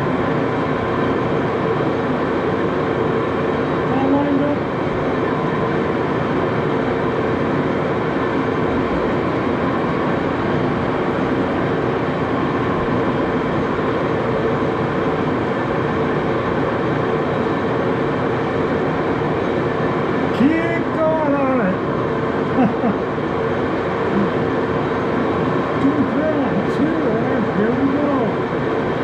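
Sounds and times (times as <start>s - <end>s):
faint gear whine: 0.0s - 29.0s
lathe mechanical drone: 0.0s - 29.0s.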